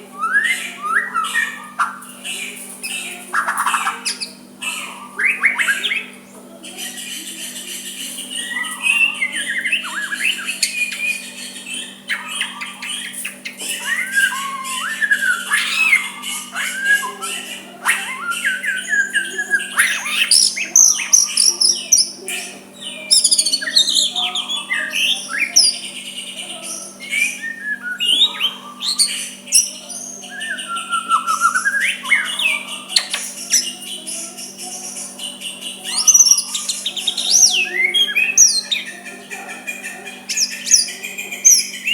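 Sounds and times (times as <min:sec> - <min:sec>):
bird singing whistled song: 0:00.1 - 0:02.1, 0:02.8 - 0:07.3, 0:07.9 - 0:39.0, 0:40.3 - 0:41.9.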